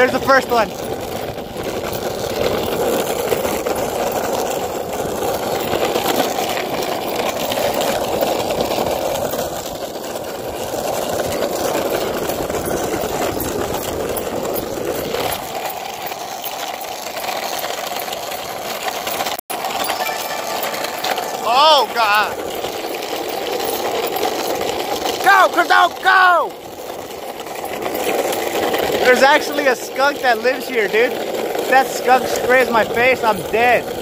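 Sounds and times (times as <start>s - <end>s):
longboard wheels rolling on asphalt: 0.0s - 34.0s.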